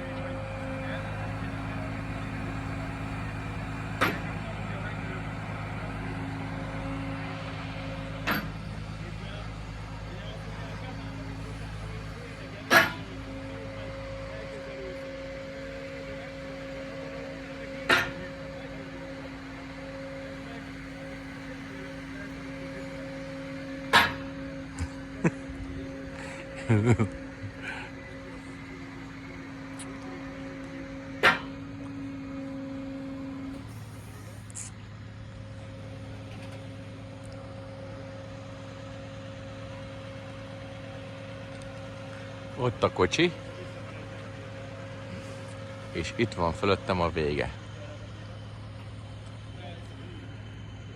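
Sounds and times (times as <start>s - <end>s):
crane hydraulics humming: 0.0s - 50.9s
truck engine running: 0.0s - 50.9s.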